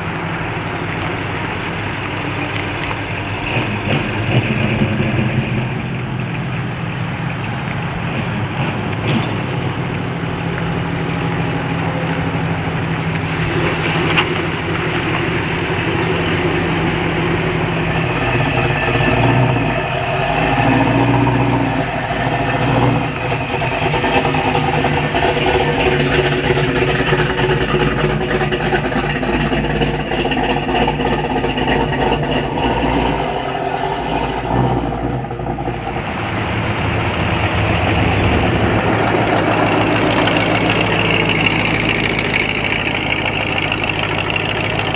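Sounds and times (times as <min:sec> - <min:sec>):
car engines idling: 0:00.0 - 0:44.9.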